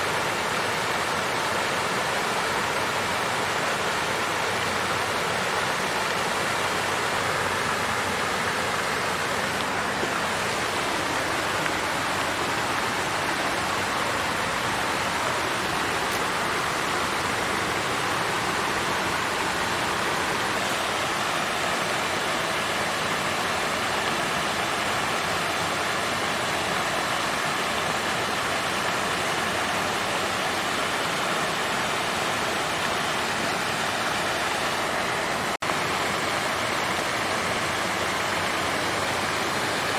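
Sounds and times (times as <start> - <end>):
water fountain splashing: 0.0 - 39.9.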